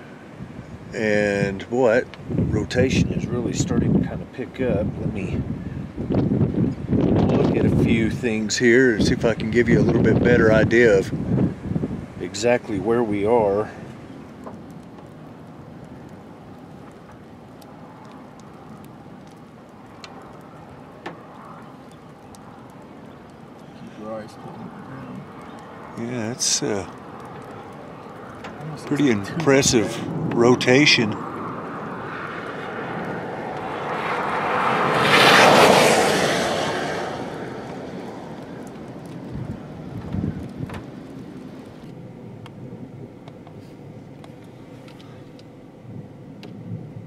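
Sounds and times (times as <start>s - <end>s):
storm rumbling: 0.0s - 47.0s
vehicle passing on road: 5.3s - 47.0s.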